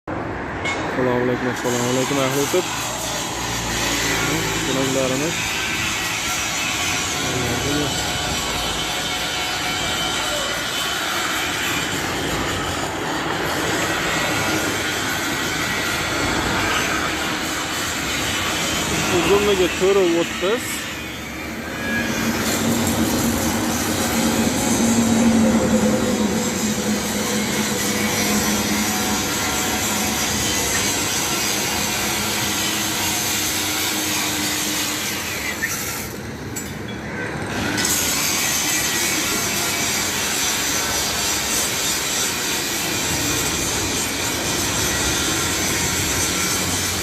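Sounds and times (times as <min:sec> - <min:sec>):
metal roll-forming machine running: 0:01.8 - 0:36.2, 0:37.4 - 0:47.0.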